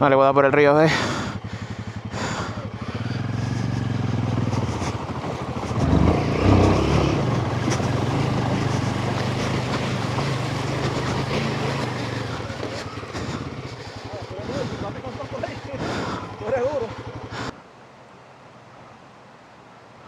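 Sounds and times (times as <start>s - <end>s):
motorcycle engine running: 0.0s - 17.6s.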